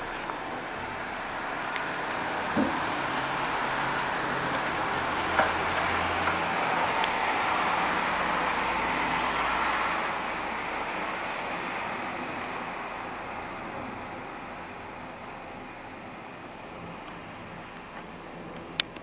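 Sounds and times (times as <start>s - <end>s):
passing road traffic: 0.0s - 19.0s.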